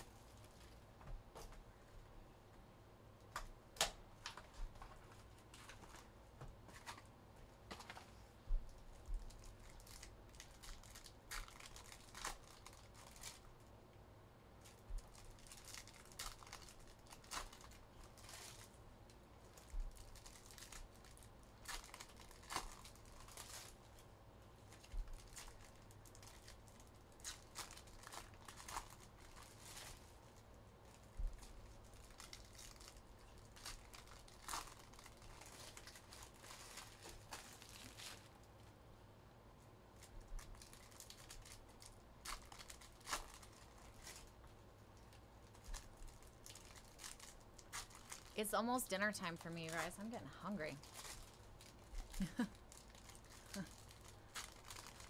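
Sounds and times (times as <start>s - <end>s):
crinkling of wrappers: 0.0s - 1.6s, 3.3s - 13.7s, 14.6s - 38.8s, 39.9s - 55.0s.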